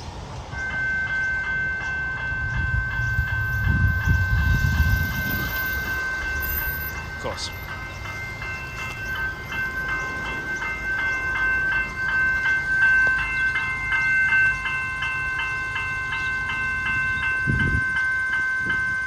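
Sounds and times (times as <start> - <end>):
level crossing bells ringing: 0.0 - 19.0
low rumble of passing train: 0.0 - 19.0.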